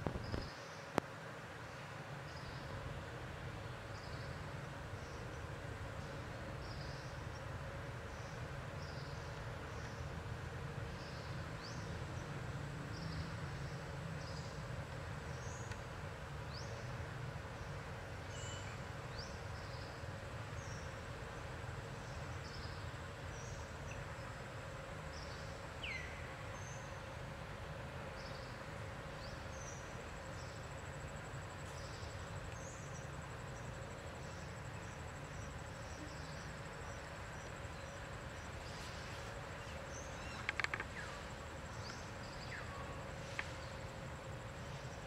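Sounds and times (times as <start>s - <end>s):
low rumble and hiss: 0.0s - 45.0s.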